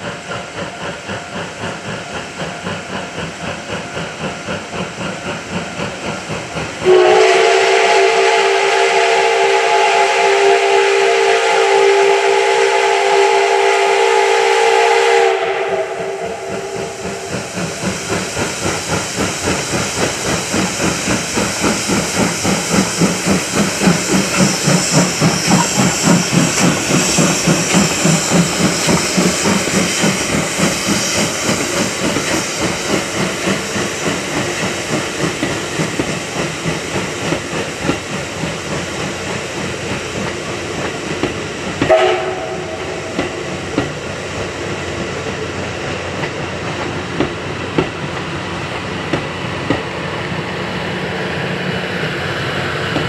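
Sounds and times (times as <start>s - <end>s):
steam locomotive exhaust chuffing: 0.0s - 53.0s
train rolling noise: 0.0s - 53.0s.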